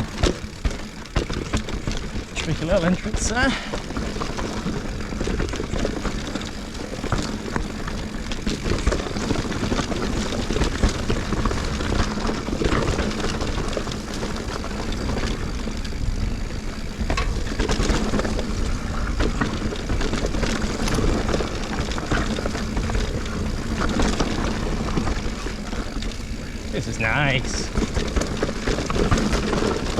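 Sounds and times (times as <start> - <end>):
bike rattling: 0.0 - 29.9
tyres on dirt: 0.0 - 29.9.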